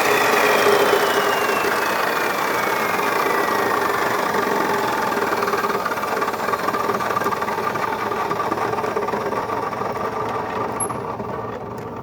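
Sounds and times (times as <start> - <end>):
chop saw cutting: 0.0 - 11.2.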